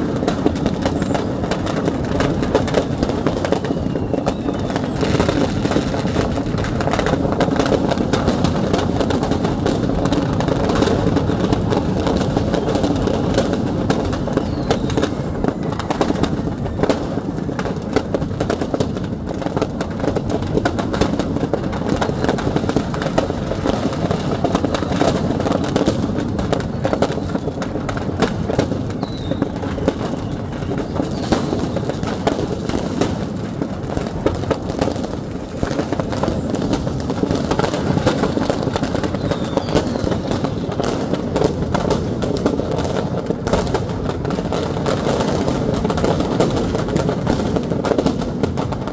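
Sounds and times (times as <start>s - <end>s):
firecrackers crackling: 0.0s - 48.9s.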